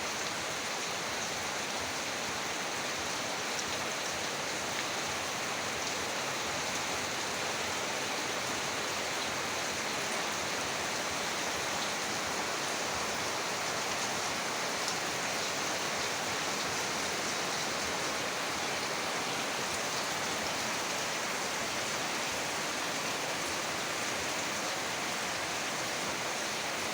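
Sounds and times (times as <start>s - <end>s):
heavy rain pouring: 0.1s - 26.9s.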